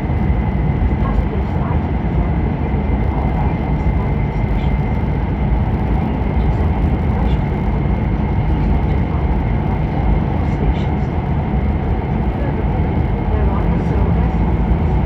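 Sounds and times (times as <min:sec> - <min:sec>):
train cabin rumble: 0:00.0 - 0:15.0.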